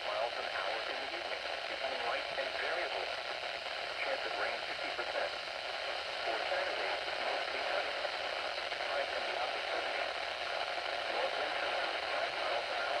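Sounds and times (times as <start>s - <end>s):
faint automated voice on radio: 0.0s - 13.0s
radio static hiss: 0.0s - 13.0s.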